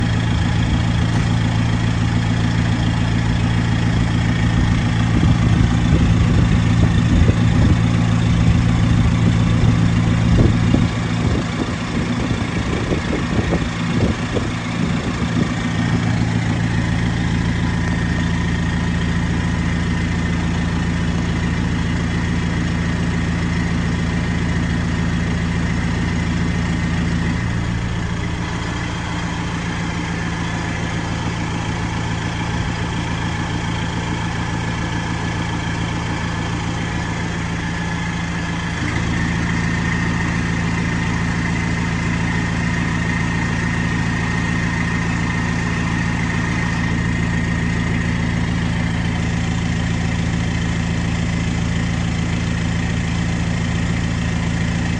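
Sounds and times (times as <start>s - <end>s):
vehicle engine idling: 0.0s - 54.9s.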